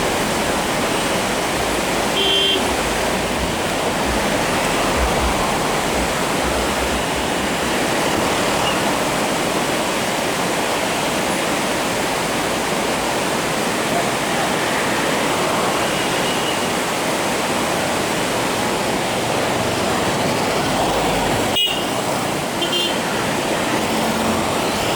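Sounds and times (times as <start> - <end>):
river rapid rushing: 0.0 - 24.9.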